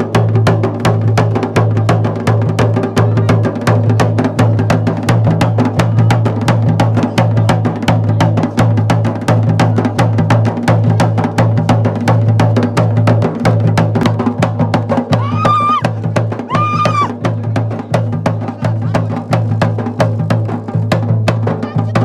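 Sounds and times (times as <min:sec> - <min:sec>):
fast steady drumming: 0:00.0 - 0:22.0.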